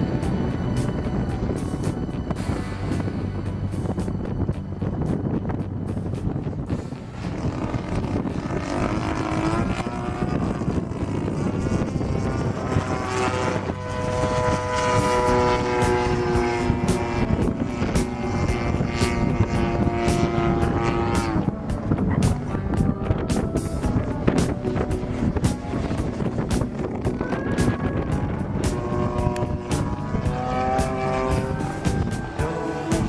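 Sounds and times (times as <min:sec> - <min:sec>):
model plane engine and propeller: 0:00.0 - 0:33.0.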